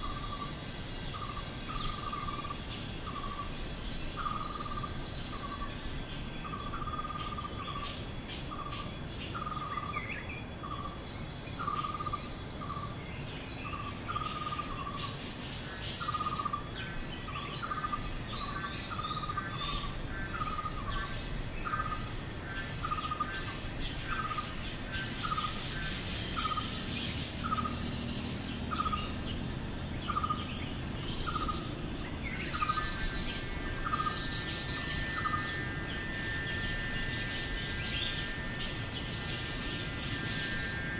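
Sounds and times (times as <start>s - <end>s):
bird chirps: 0.0s - 40.9s
high-pitched insect trill: 0.0s - 40.9s.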